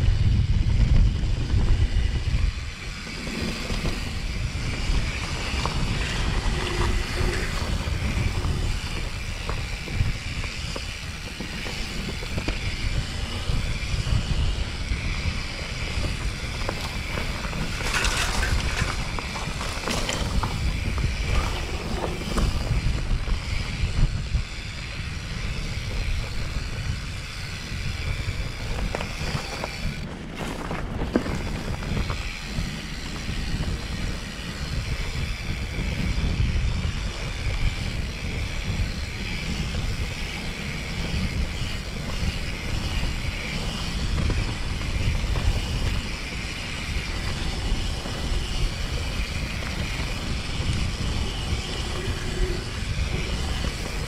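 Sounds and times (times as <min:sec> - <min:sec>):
bike rattles and clicks: 0:00.0 - 0:54.0
bike tyres rumbling on dirt: 0:00.0 - 0:54.0
wind buffeting microphone: 0:00.0 - 0:54.0.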